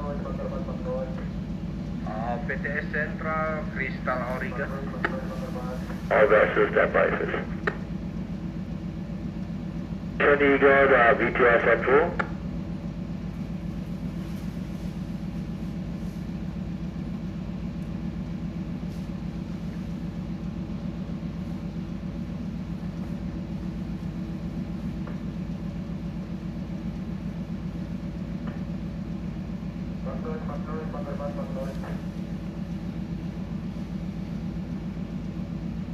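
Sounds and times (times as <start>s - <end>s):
ship engine drone: 0.0s - 35.9s.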